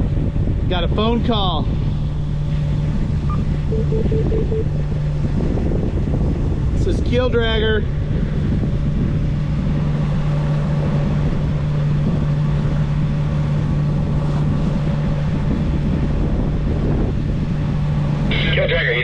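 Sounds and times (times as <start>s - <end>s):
boat engine humming: 0.0s - 19.0s
water noise: 0.0s - 19.0s
wind: 0.0s - 19.0s.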